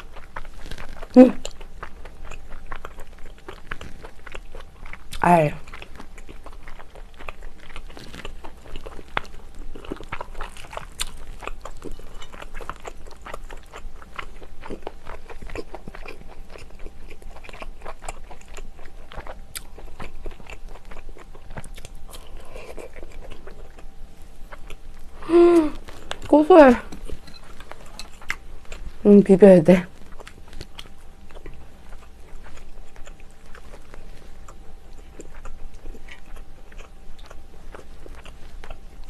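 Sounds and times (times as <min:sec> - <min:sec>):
person chewing with mouth clicks: 0:00.0 - 0:29.0, 0:30.0 - 0:39.0.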